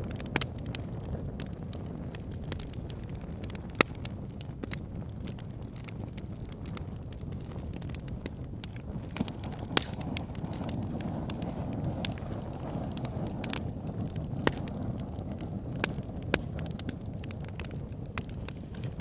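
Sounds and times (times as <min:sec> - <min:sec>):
low rush of flames: 0:00.0 - 0:19.0
wood fire crackling and popping: 0:00.0 - 0:19.0.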